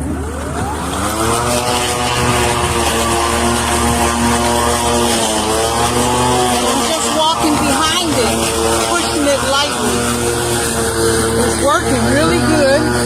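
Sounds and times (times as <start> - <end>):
electric lawn mower whirring: 0.0 - 13.0.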